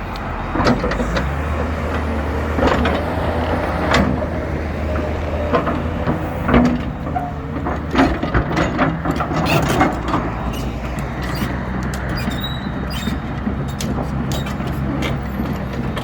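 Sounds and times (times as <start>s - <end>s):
excavator diesel engine running: 0.0s - 16.0s
metallic clanks and knocks: 0.5s - 16.0s.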